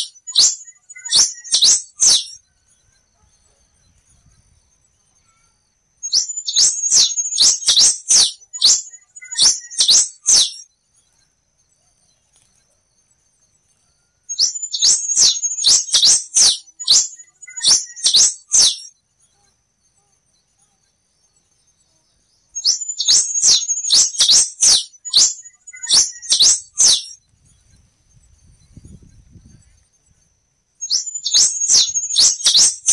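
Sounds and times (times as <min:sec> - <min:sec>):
finch singing: 0:00.0 - 0:11.2, 0:14.3 - 0:19.5, 0:22.2 - 0:30.2, 0:30.8 - 0:32.9
faint steady high tone: 0:00.0 - 0:32.9.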